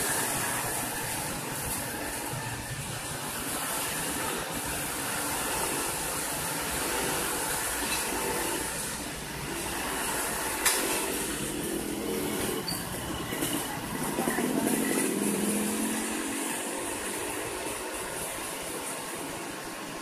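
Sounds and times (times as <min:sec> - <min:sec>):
diesel engine running: 0:00.0 - 0:20.0
vehicles passing on wet road: 0:00.0 - 0:20.0.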